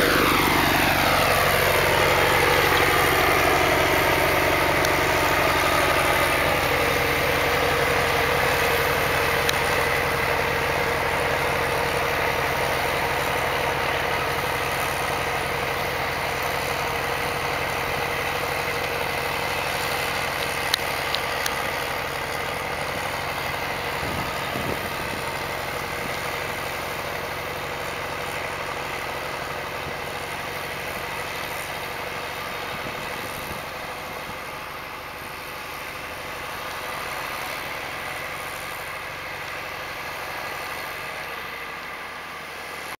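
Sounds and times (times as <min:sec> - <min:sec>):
rushing hiss of blown snow: 0:00.0 - 0:42.9
tractor engine drone: 0:00.0 - 0:42.9.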